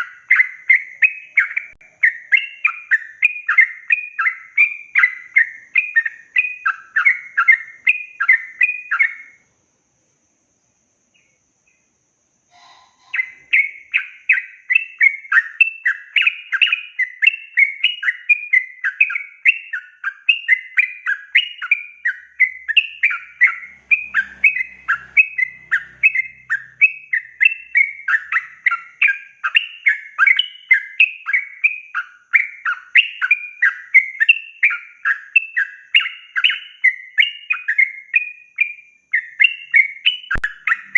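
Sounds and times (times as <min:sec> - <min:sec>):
bird chattering song: 0:00.0 - 0:09.5, 0:10.6 - 0:40.9.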